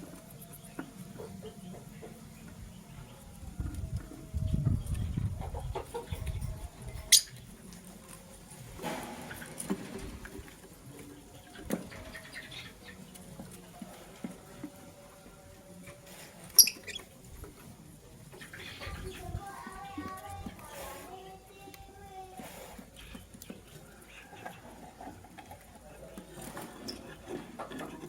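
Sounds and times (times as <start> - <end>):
birds scratching and pecking: 0.0 - 28.0.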